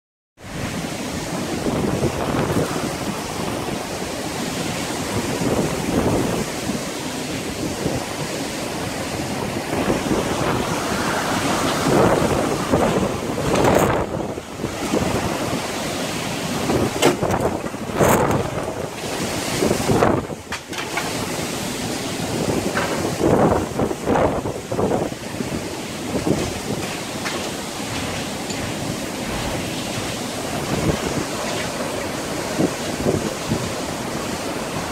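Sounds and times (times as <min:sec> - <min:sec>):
strong gusting wind: 0:00.4 - 0:34.9
wind buffeting microphone: 0:00.4 - 0:34.9.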